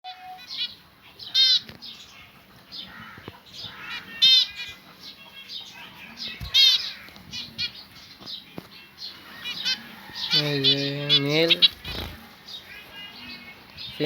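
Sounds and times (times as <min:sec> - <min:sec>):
finches calling loudly: 0:00.1 - 0:14.0
soft finch chirps: 0:00.1 - 0:14.0.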